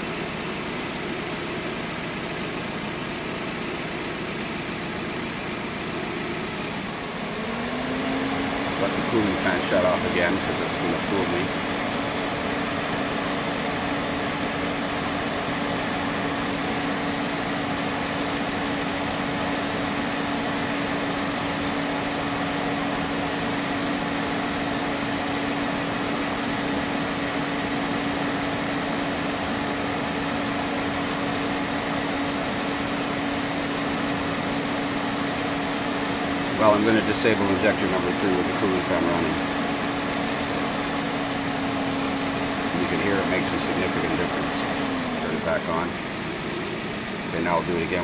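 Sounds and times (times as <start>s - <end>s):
car engine idling with misfire: 0.0s - 48.0s
radiator cooling fan running: 0.0s - 48.0s.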